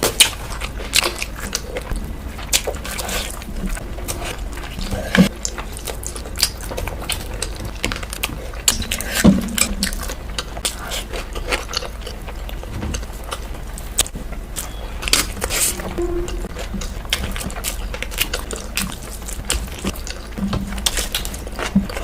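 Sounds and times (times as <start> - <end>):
person chewing food: 0.0 - 22.0
steady low hum: 0.0 - 22.0.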